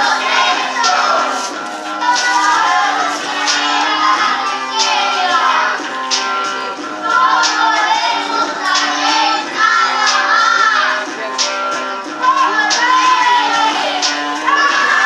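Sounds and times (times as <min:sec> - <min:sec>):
children singing a song: 0:00.0 - 0:15.0
steady beat: 0:00.0 - 0:15.0.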